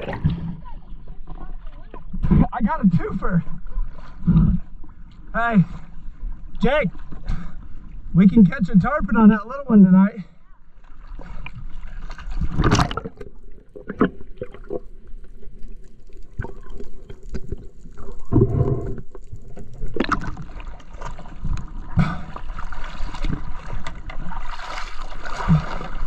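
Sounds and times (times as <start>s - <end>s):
seawater splashing and gurgling: 0.0s - 9.0s, 10.6s - 26.0s.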